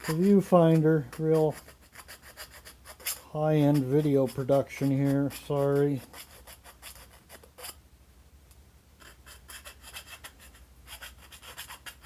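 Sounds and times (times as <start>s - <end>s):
file rasping metal: 0.0s - 7.8s, 9.0s - 12.0s.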